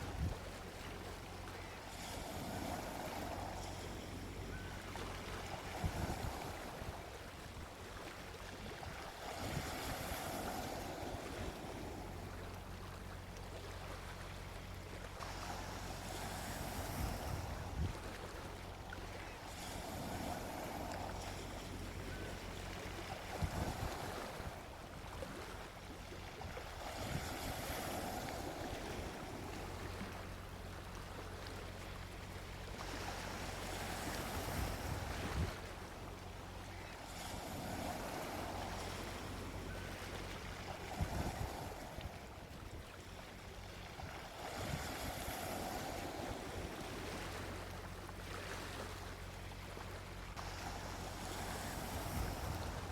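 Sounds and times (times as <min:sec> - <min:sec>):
sea waves washing on beach: 0:00.0 - 0:52.9.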